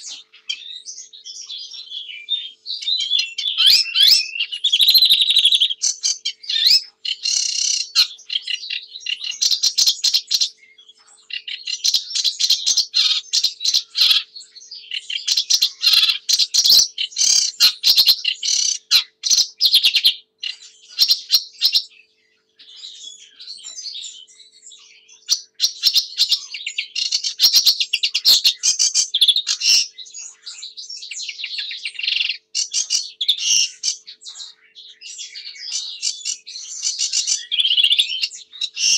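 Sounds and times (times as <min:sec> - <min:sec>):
warbler singing scratchy chatter: 0:00.0 - 0:38.9.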